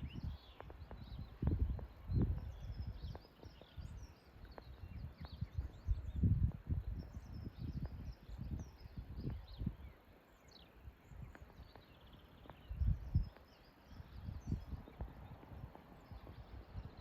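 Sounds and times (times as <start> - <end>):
small birds chirping: 0.0 - 17.0
wind gusting on microphone: 0.0 - 17.0.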